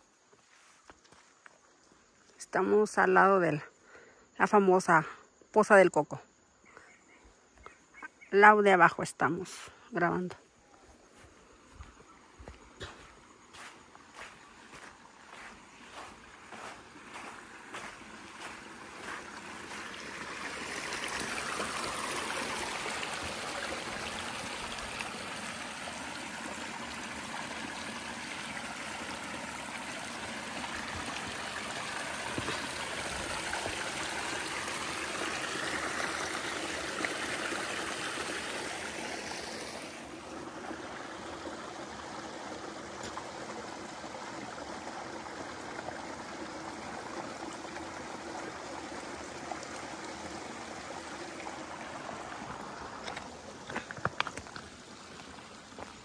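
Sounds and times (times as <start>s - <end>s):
river water flowing: 10.0s - 56.0s.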